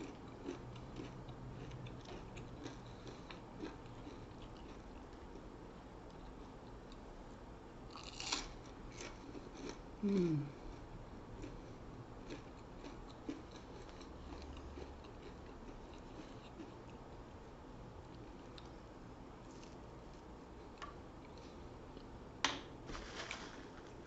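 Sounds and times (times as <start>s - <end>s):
soft chewing clicks: 0.0s - 7.1s, 7.9s - 9.8s, 10.6s - 17.3s, 18.0s - 18.8s, 19.4s - 22.2s.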